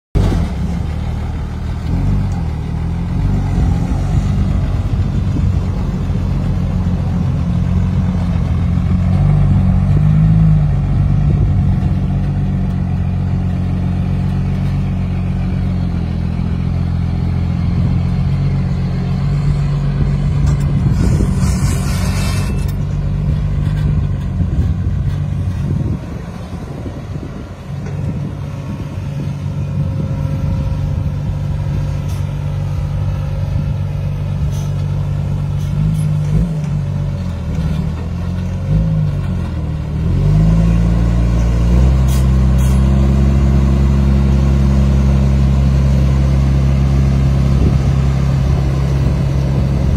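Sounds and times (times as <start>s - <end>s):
diesel truck engine droning: 0.2s - 49.9s.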